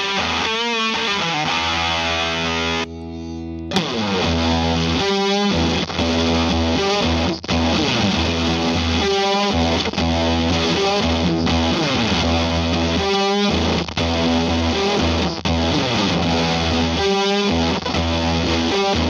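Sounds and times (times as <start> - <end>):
distorted electric guitar riff: 0.0 - 19.0.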